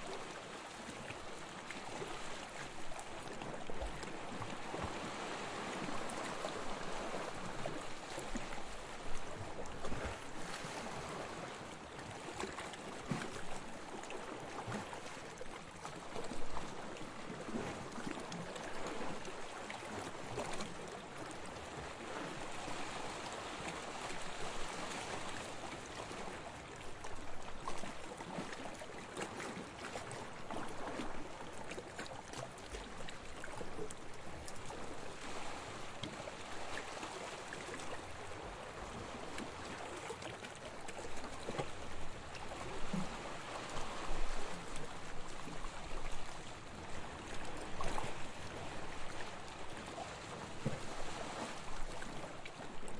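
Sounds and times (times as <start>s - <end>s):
water splashes: 0.0s - 52.9s
waves washing onto beach: 0.0s - 52.9s.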